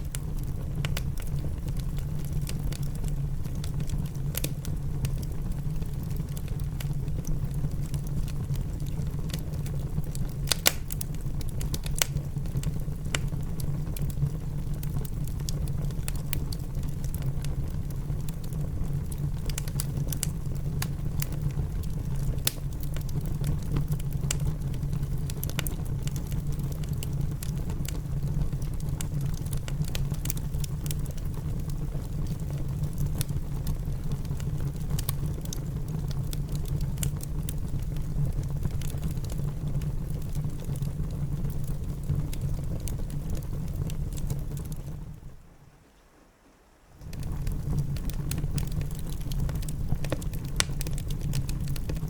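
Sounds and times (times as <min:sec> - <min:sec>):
low rumble of rain: 0:00.0 - 0:52.0
wood fire crackling: 0:00.0 - 0:52.0.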